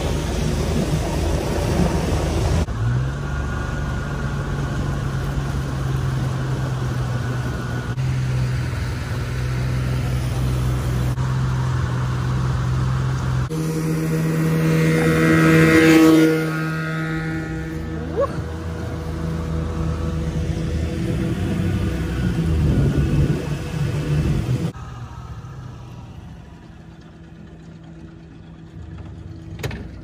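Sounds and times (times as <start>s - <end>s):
outboard motor running: 0.0s - 30.0s
water rushing past hull: 0.0s - 30.0s.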